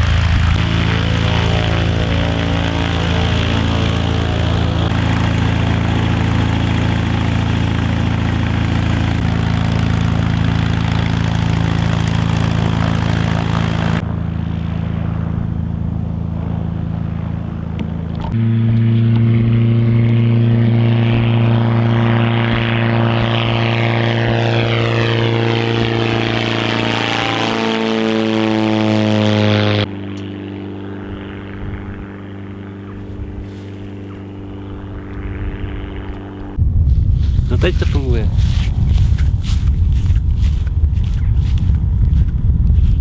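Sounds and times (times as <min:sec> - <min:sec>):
aircraft passing overhead: 0:00.0 - 0:43.0
propeller engine running: 0:00.0 - 0:43.0.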